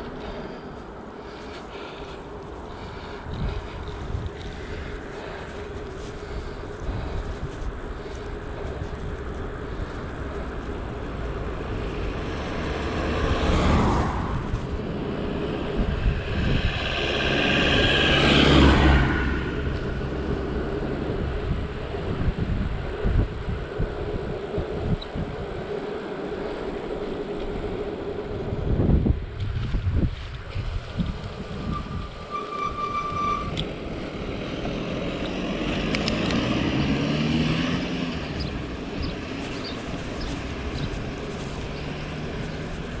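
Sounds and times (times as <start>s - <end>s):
bicycle road noise: 0.0s - 43.0s
motor vehicles passing: 0.0s - 43.0s
wind buffeting microphone: 0.0s - 43.0s.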